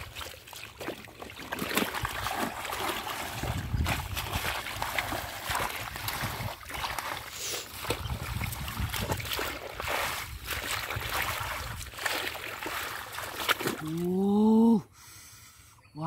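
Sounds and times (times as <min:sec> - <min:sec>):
muddy water splashing: 0:00.0 - 0:14.6.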